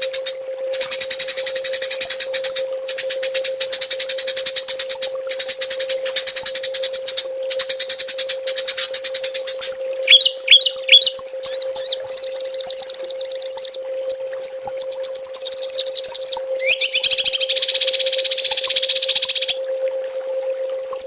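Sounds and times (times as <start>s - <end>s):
songbirds trilling: 0.0s - 19.6s
low hum: 0.0s - 21.0s.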